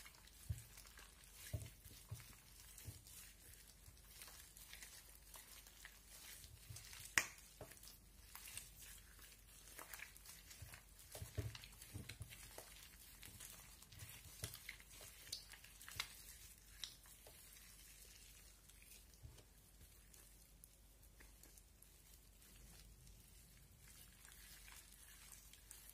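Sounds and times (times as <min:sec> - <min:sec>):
slime squelching: 0:00.0 - 0:25.9.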